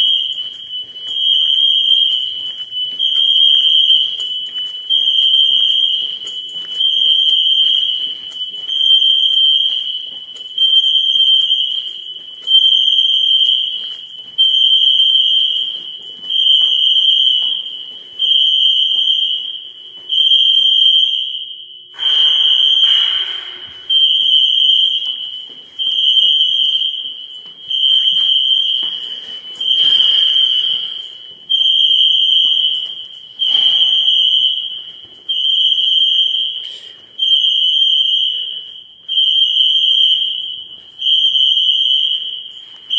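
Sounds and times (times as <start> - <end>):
high-pitched alarm beeping: 0.0 - 42.9.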